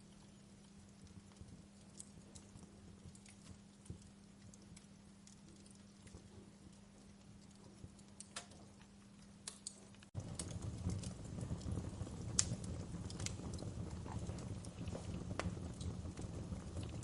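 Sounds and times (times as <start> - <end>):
faint steady hum: 0.0 - 17.0
fire crackling and popping: 0.0 - 17.0.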